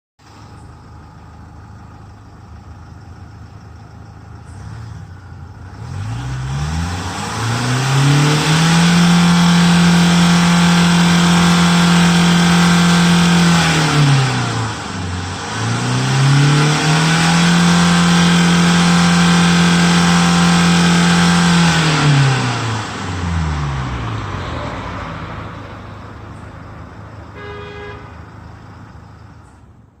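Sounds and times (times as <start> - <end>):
car engine idling and revving: 0.2 - 30.0.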